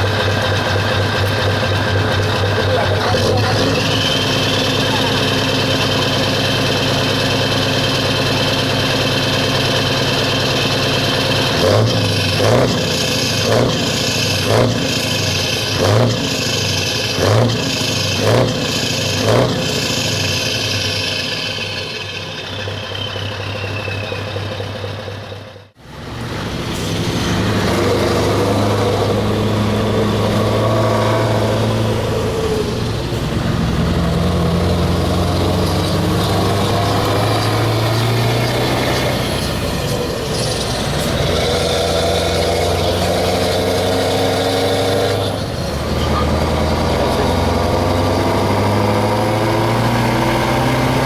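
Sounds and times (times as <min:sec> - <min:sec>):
truck diesel engine idling and revving: 0:00.0 - 0:51.0.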